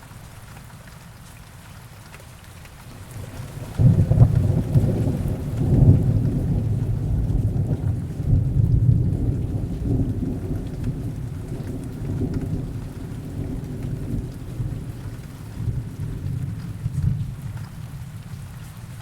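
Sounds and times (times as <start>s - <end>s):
heavy rain: 0.0s - 19.0s
distant rolling thunder: 3.2s - 18.6s.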